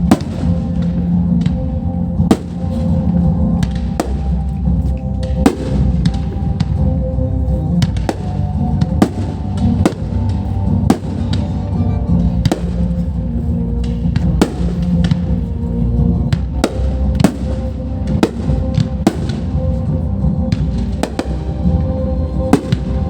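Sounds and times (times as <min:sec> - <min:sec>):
fireworks bangs: 0:00.0 - 0:06.9, 0:07.6 - 0:23.0
music with held tones: 0:00.0 - 0:23.0.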